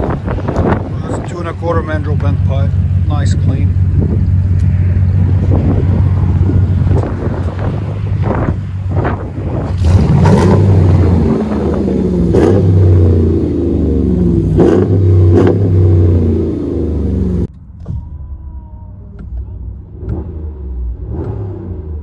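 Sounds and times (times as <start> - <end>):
engine revving deep rumble: 0.0 - 22.0
exhaust cracks: 0.0 - 22.0.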